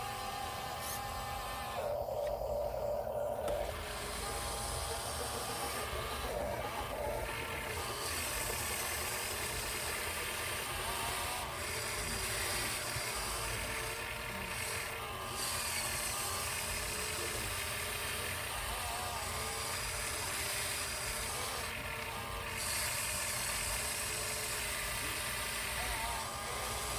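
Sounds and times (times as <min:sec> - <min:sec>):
radio-controlled truck motor drone: 0:00.0 - 0:26.9.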